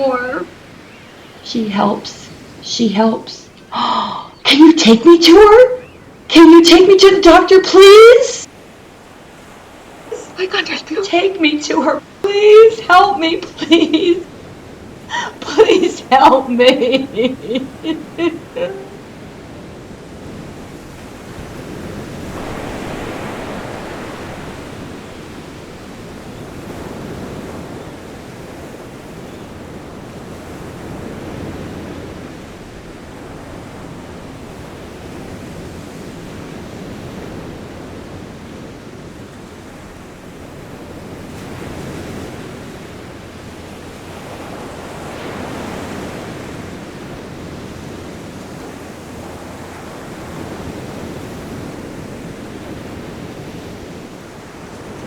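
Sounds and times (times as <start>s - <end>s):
ocean waves rushing: 0.0s - 55.0s.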